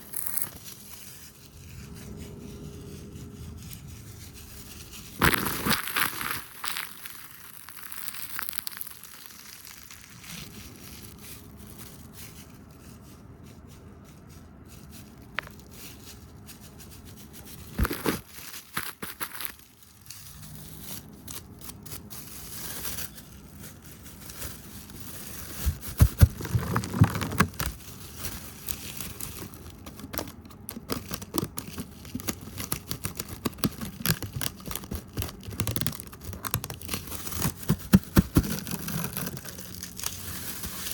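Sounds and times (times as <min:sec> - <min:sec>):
crinkly rustling on microphone: 0:00.0 - 0:40.9.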